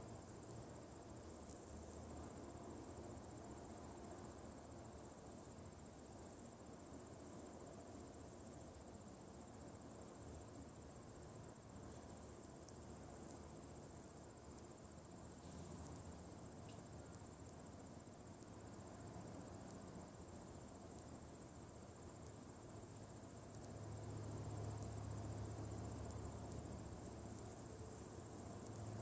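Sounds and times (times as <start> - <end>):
faint ticks: 0.0 - 29.0.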